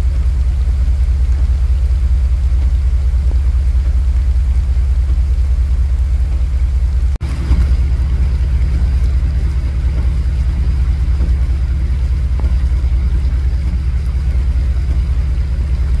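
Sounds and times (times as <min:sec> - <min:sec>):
faint rain hiss: 0:00.0 - 0:16.0
vehicle engine idling: 0:00.0 - 0:16.0.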